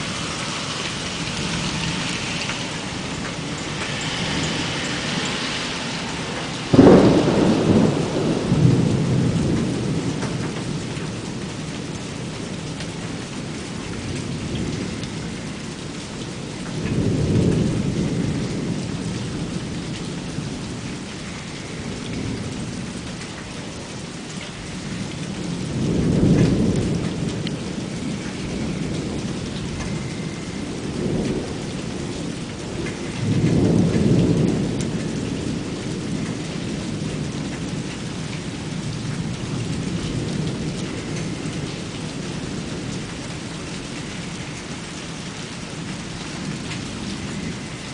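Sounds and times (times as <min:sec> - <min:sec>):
rolling thunder: 0:00.0 - 0:15.4, 0:16.2 - 0:23.2, 0:24.6 - 0:44.4
rain hissing: 0:00.0 - 0:47.9.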